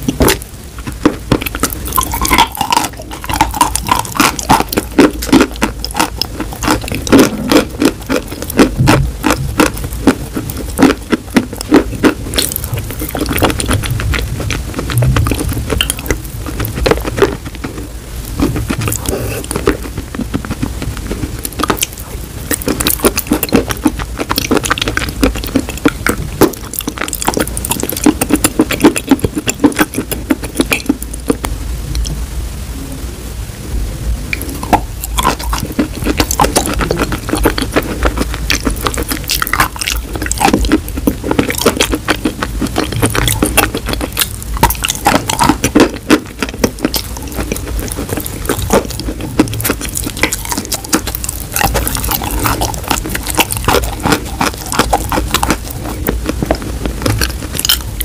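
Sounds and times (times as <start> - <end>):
wet chalk crunching while chewed: 0.0 - 32.2, 34.4 - 58.0.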